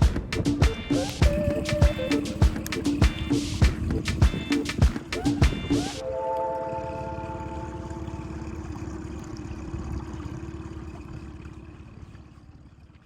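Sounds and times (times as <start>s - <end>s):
boat engine rumbling: 0.3s - 13.0s.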